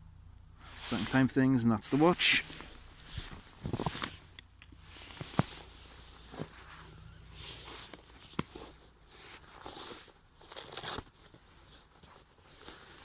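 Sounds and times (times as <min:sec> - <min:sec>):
clothing rustling: 0:00.6 - 0:13.0.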